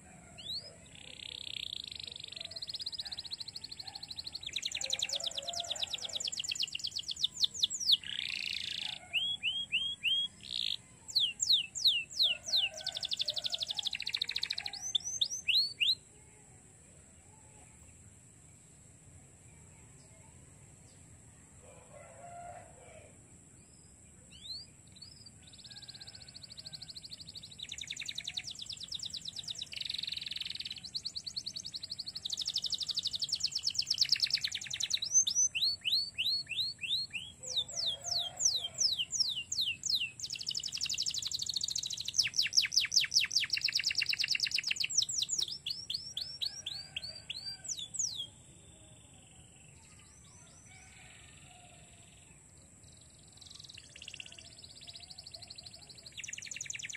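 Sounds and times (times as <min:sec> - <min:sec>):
canary singing trills: 0:00.0 - 0:16.1, 0:23.7 - 0:48.4, 0:49.0 - 0:56.9.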